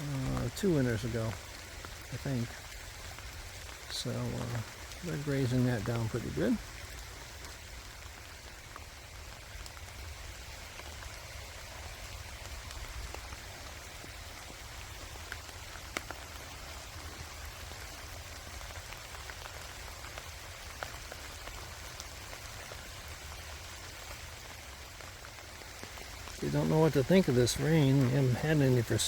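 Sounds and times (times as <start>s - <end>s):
gentle rain pattering: 0.0s - 29.0s
raindrops ticking: 0.0s - 29.0s.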